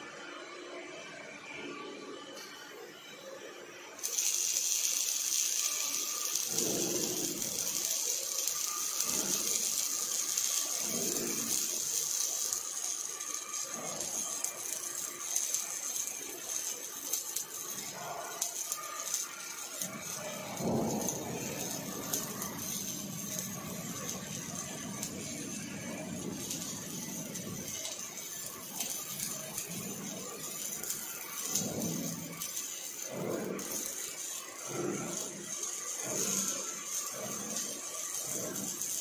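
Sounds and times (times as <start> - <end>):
arc welding crackling sizzle: 0.1 - 39.0.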